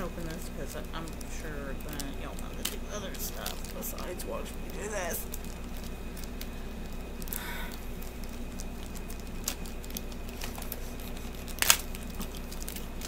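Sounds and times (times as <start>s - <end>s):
plastic packaging crinkling: 0.0s - 13.0s
plastic packaging tearing: 0.2s - 13.0s.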